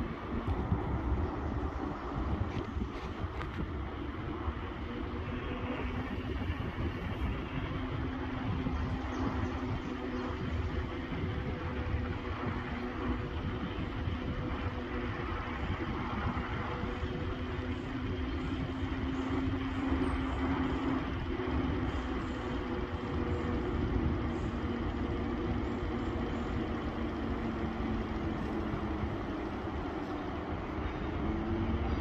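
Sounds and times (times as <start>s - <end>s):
car engine hum: 0.0s - 32.0s
tyre and road noise: 0.0s - 32.0s.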